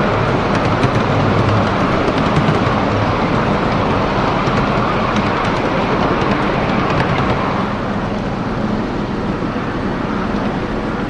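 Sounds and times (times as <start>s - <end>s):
wheels rumbling and rattling on rails: 0.0s - 11.0s.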